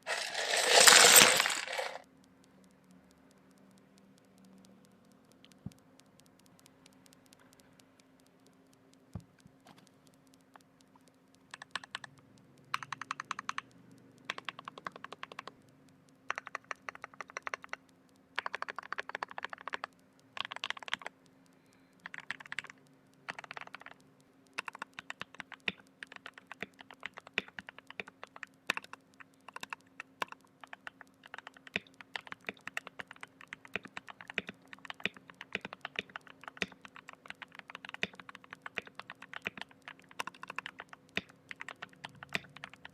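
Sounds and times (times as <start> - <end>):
mechanical keyboard typing: 0.0 - 8.7, 9.5 - 42.9
faint steady hum: 0.0 - 42.9.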